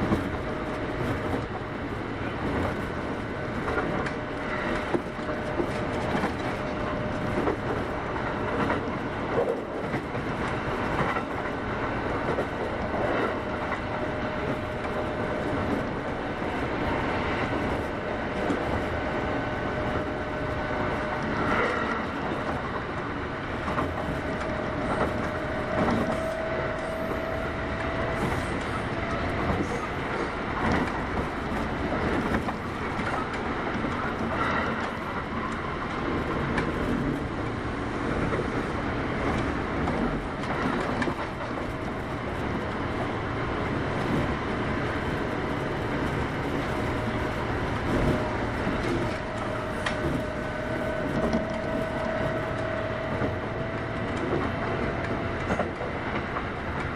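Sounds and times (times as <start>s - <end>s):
train hum: 0.0s - 56.9s
train wheels rumbling on rail: 0.0s - 56.9s.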